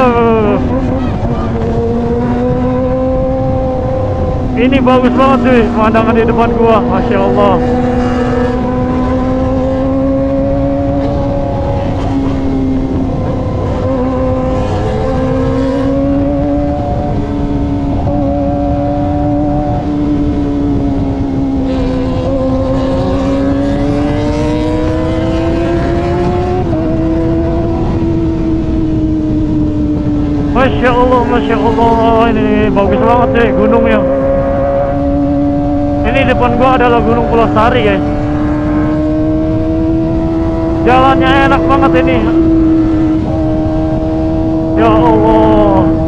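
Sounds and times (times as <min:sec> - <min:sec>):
motorcycle engine cruising: 0:00.0 - 0:46.0
wind noise: 0:00.0 - 0:46.0.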